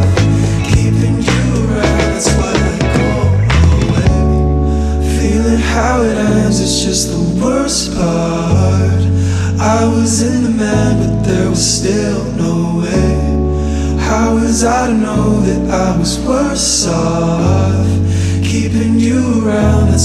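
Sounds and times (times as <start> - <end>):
held bass notes: 0.0 - 20.0
person singing: 0.0 - 20.0.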